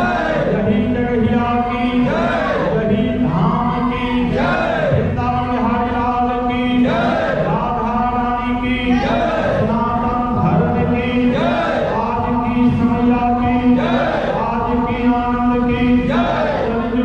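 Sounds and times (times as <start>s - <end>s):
man singing through loudspeaker: 0.0s - 17.0s
men chanting a hymn: 0.0s - 17.0s.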